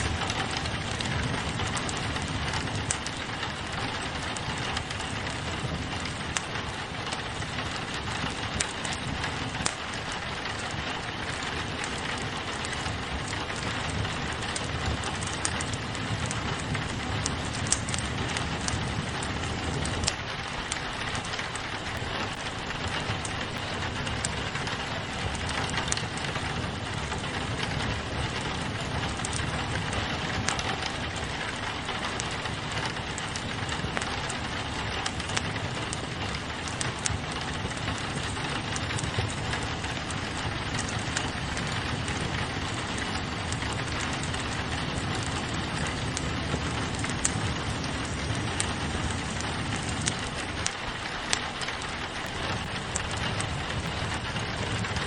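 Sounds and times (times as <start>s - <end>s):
rain pattering on a window: 0.0s - 55.0s
wood fire crackling: 0.0s - 55.0s.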